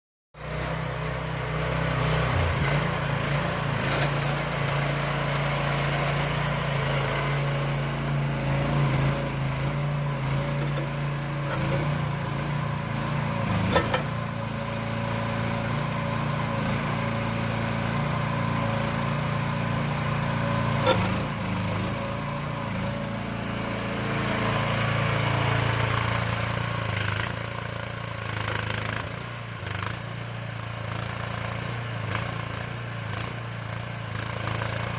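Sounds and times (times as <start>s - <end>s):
mini excavator engine running: 0.4s - 34.9s.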